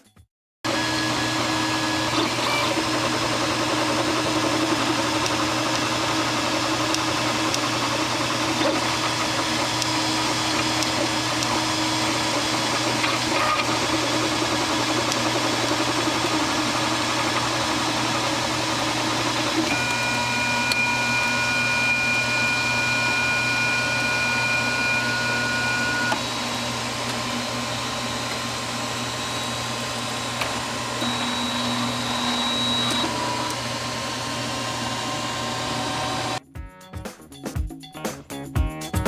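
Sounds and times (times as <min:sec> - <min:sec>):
printer fan and motor noise: 0:00.7 - 0:36.4
stepper motor whines: 0:00.7 - 0:36.4.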